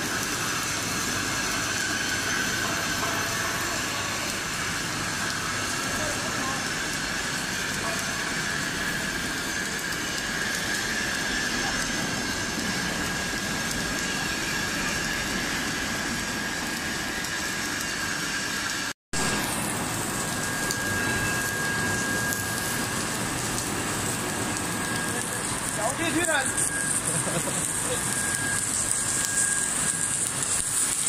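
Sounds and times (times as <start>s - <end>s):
factory machinery hum and hiss: 0.0s - 31.0s
high whine: 0.0s - 31.0s.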